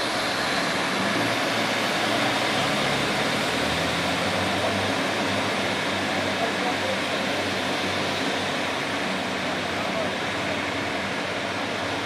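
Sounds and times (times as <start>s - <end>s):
diesel train engines: 0.0s - 12.0s
wheel noise rushing: 0.0s - 12.0s.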